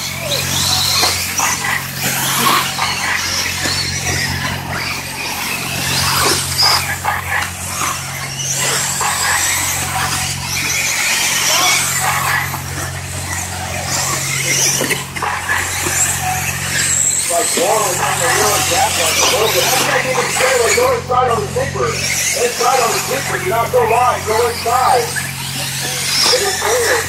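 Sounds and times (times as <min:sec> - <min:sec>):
rc car motors whining: 0:00.0 - 0:27.0
steady low hum: 0:00.0 - 0:27.0.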